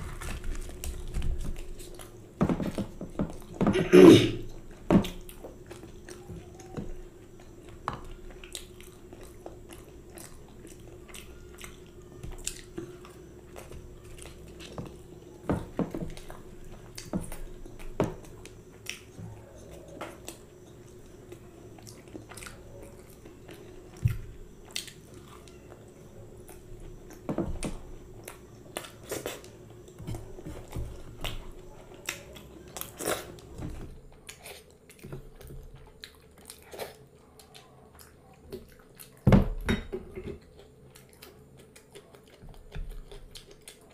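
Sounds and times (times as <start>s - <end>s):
close chewing and mouth smacks: 0.0s - 3.6s, 4.5s - 25.8s, 26.4s - 39.2s, 40.2s - 43.9s
faint steady hum: 0.0s - 43.9s.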